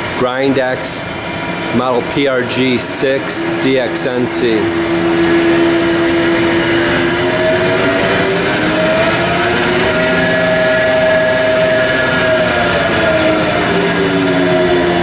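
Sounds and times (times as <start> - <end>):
grinder machine hum: 0.0 - 15.0
whining tones drifting in pitch: 0.0 - 15.0.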